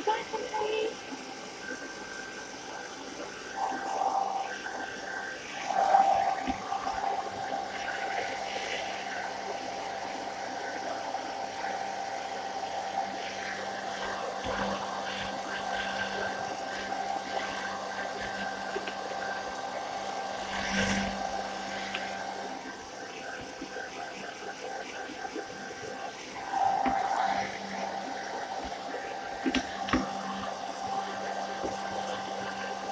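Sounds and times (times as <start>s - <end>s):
hairdryer blowing air: 1.0s - 32.9s.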